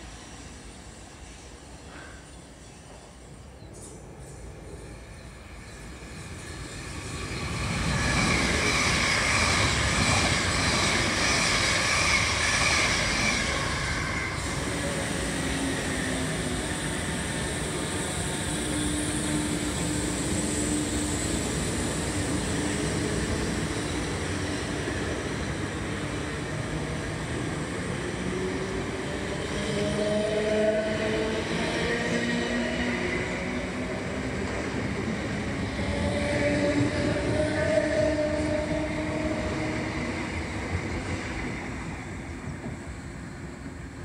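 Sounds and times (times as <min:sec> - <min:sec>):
electric train rumbling past: 0:00.0 - 0:44.0
train high whine: 0:00.0 - 0:44.0.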